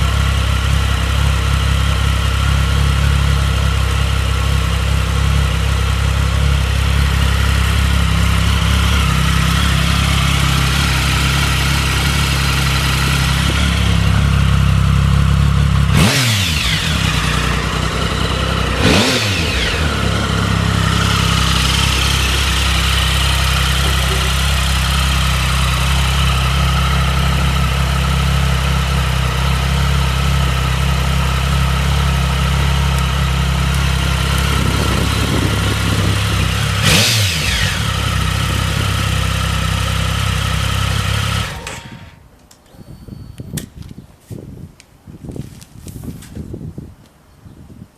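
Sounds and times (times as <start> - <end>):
motorcycle engine idling: 0.0 - 43.5.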